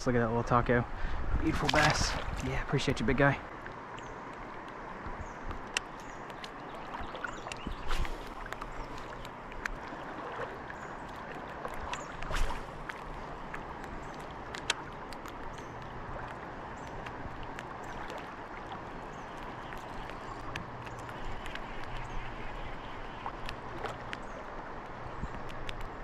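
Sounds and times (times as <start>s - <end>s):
river water rushing: 1.6s - 26.0s.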